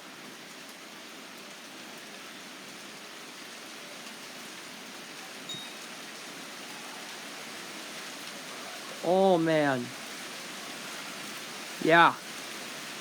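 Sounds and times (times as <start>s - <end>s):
light rain hissing on surfaces: 0.0s - 13.0s.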